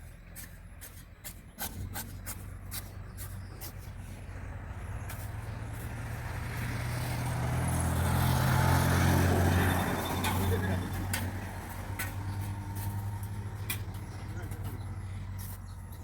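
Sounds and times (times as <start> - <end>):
vehicle engine: 0.0 - 16.0.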